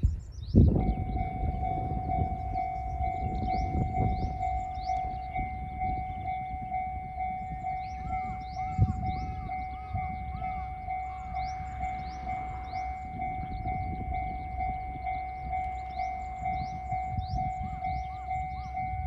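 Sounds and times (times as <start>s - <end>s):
birds chirping: 0.0s - 19.0s
level crossing bell dinging: 0.8s - 19.0s.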